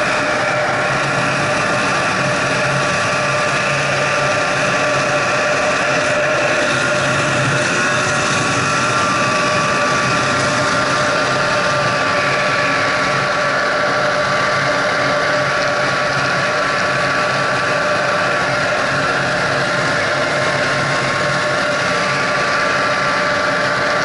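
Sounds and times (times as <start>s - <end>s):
snowmobile engine droning: 0.0s - 24.0s.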